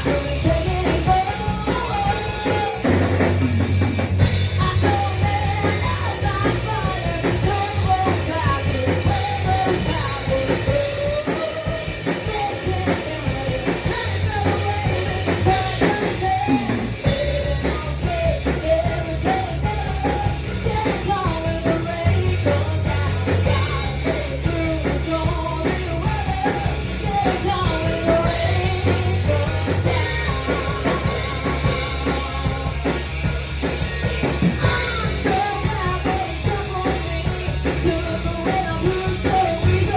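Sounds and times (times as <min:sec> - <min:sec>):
person singing: 0:00.0 - 0:03.4, 0:04.6 - 0:33.1, 0:34.2 - 0:39.9
bass notes: 0:00.0 - 0:39.9
drums: 0:00.0 - 0:39.9.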